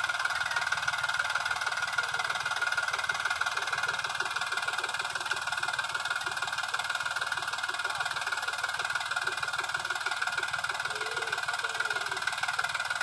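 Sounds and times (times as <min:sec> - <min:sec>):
tractor diesel engine chugging: 0:00.0 - 0:13.0.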